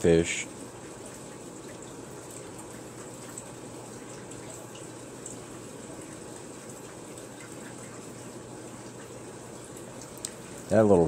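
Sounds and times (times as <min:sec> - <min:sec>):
aquarium water bubbling: 0:00.0 - 0:11.0.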